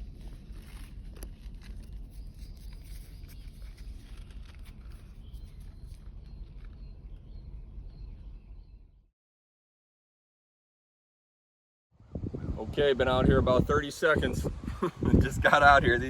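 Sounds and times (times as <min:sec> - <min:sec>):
wind rumbling on microphone: 0:00.0 - 0:08.9, 0:12.0 - 0:16.0.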